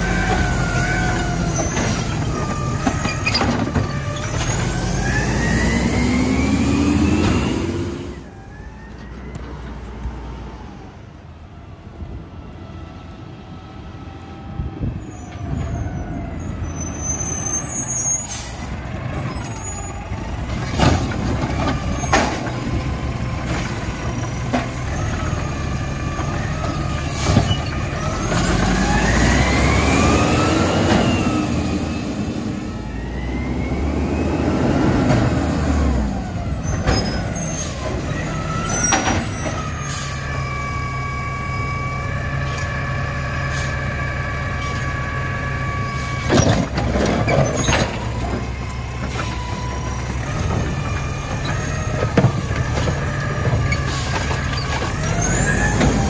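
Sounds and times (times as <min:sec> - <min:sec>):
garbage truck engine: 0:00.0 - 0:56.0.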